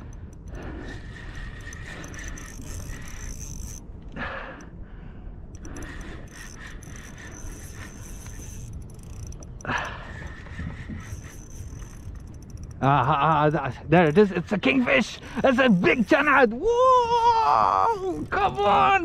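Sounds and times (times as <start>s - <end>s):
fishing reel whirring and clicking: 0.0s - 4.8s, 5.4s - 19.0s.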